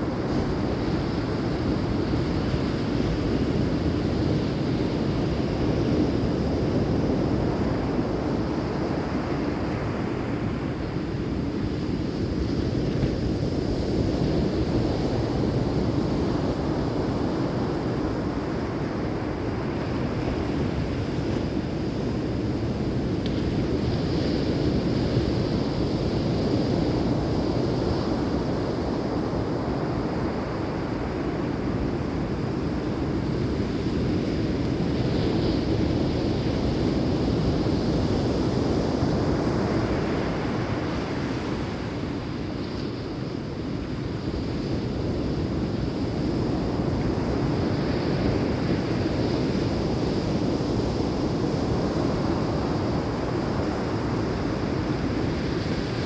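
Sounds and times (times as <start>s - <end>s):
ocean surf washing in: 0.0s - 56.0s
wind rumbling on microphone: 0.0s - 56.0s.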